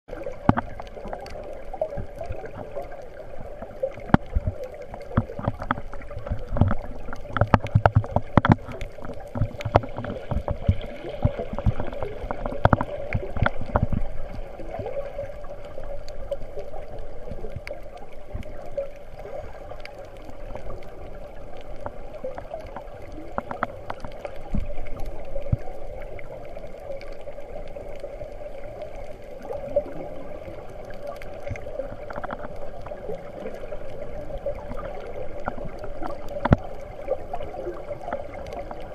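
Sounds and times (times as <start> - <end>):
rumbling water movement: 0.0 - 38.9
underwater murmur of water: 0.0 - 38.9
sharp underwater clicks: 0.1 - 38.9.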